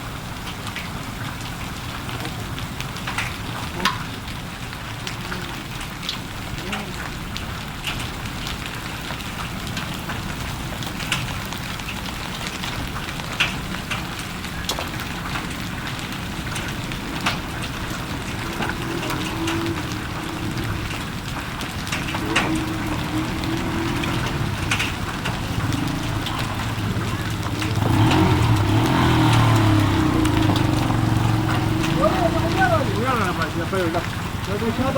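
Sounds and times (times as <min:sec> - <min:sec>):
heavy rain falling: 0:00.0 - 0:34.9
loud close raindrops: 0:00.0 - 0:34.9.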